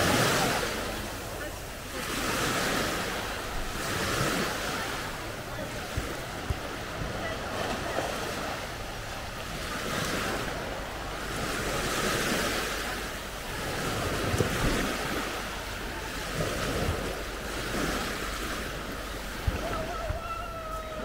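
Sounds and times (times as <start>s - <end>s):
small waves washing onto sand: 0.0s - 21.0s
wind rumbling on microphone: 0.0s - 21.0s.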